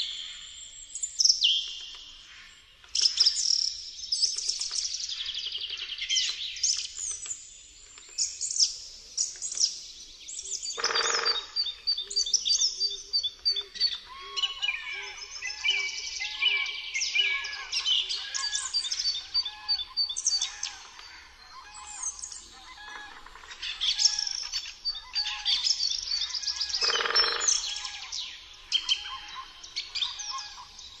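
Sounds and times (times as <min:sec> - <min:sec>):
birds singing in chorus: 0:00.0 - 0:31.0.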